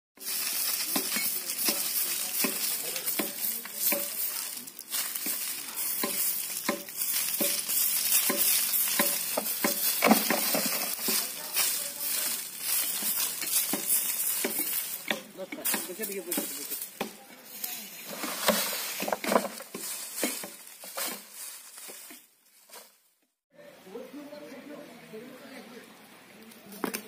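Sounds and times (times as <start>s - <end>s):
broom sweeping dirt ground: 0.2s - 23.1s.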